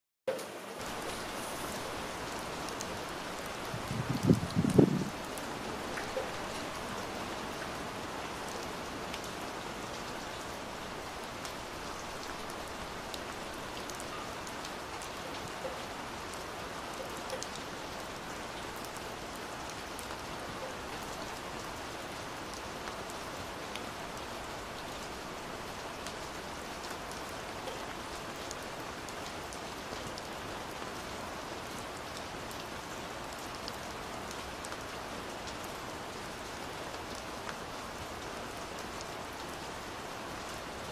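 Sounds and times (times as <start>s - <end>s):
heavy rain on window glass: 0.3s - 40.9s.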